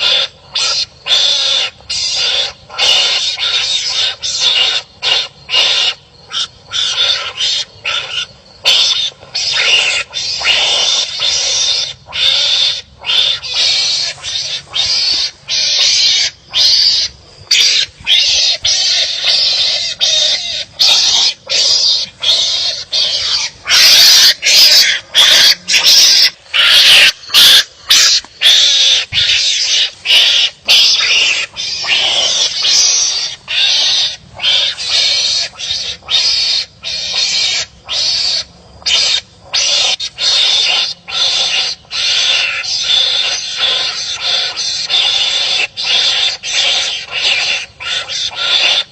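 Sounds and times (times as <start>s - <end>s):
animals calling harshly: 0.0s - 48.9s.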